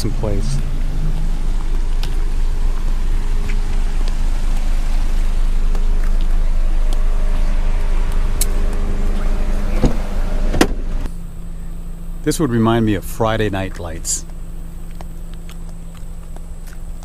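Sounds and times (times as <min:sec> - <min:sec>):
van driving road noise: 0:00.0 - 0:17.0.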